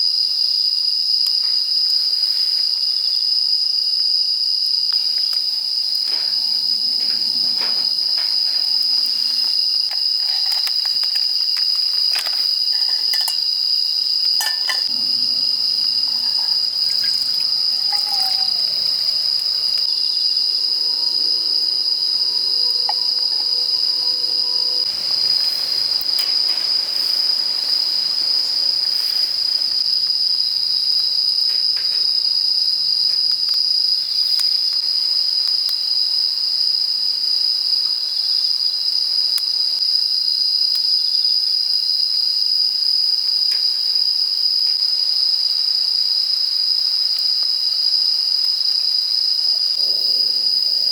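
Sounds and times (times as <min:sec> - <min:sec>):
insects chirping chorus: 0:00.0 - 0:50.9.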